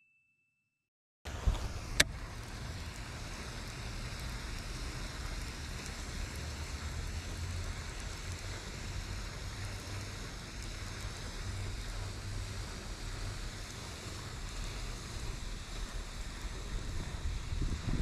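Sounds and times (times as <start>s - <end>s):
wind rumbling on microphone: 1.3s - 18.0s.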